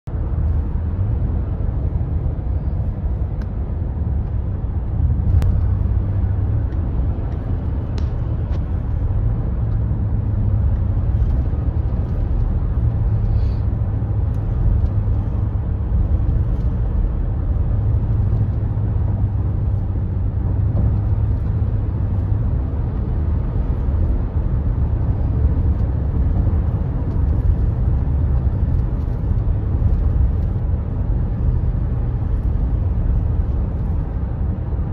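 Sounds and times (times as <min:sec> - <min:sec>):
tyre and road rumble in car: 0:00.0 - 0:34.9.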